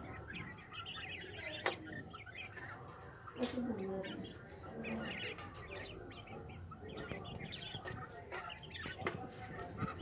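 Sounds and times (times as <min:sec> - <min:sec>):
quail chirping and clucking: 0:00.0 - 0:10.0.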